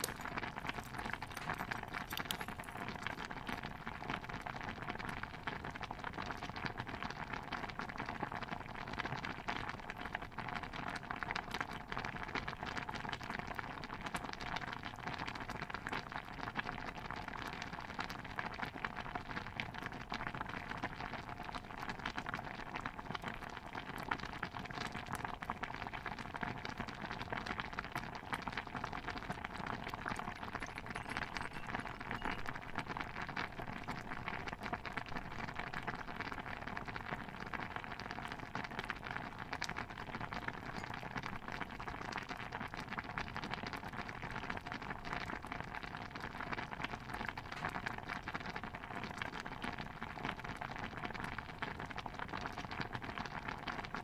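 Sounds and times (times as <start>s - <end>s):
stew bubbling: 0.0s - 54.0s.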